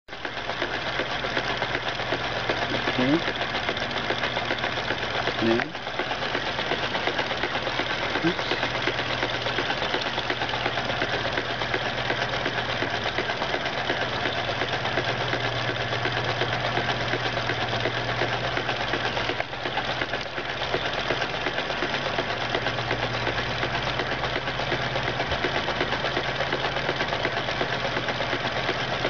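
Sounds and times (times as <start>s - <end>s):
small motor rattling: 0.1s - 29.0s.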